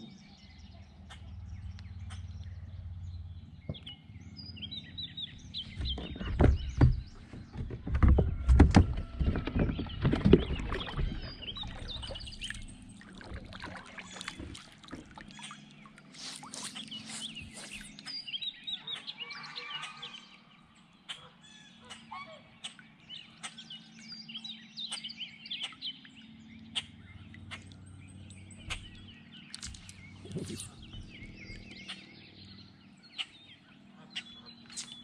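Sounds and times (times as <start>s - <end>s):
small birds chirping and singing: 0.0s - 35.0s.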